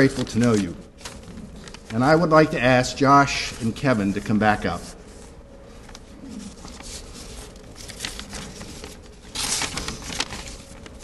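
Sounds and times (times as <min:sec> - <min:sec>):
paper rustling: 0:00.0 - 0:02.4, 0:03.4 - 0:11.0.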